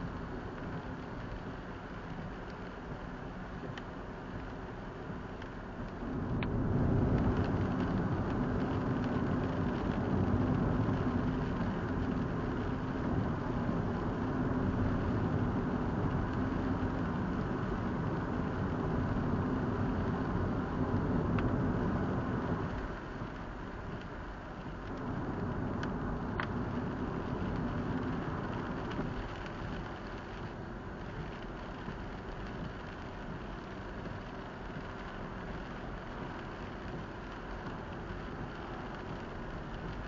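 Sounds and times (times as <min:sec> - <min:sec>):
car engine hum: 0:00.0 - 0:40.0
tyre noise on wet road: 0:00.0 - 0:40.0.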